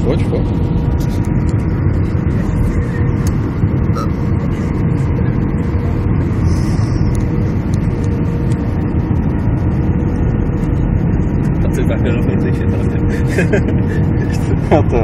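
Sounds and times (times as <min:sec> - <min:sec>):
faint steady whine: 0:00.0 - 0:15.0
jet engines and rushing air: 0:00.0 - 0:15.0.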